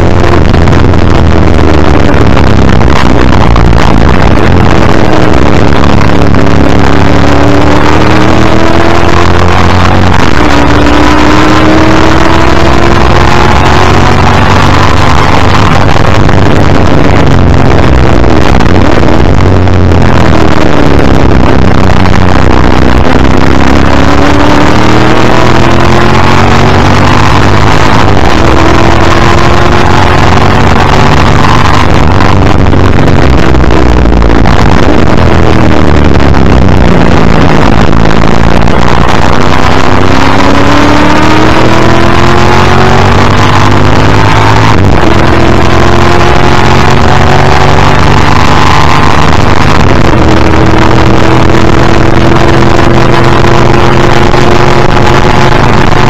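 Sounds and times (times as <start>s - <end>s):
racing engine revving: 0.0s - 56.0s
wind and road noise: 0.0s - 56.0s.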